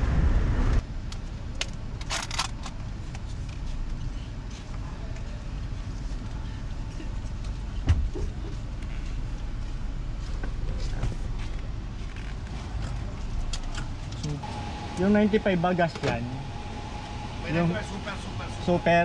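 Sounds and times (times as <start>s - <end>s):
car engine rumble: 0.0s - 19.0s.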